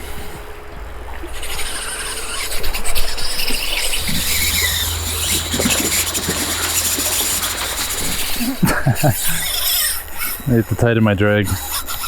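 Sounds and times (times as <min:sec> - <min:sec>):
fishing reel drag buzzing: 0:01.3 - 0:10.7, 0:11.5 - 0:12.0.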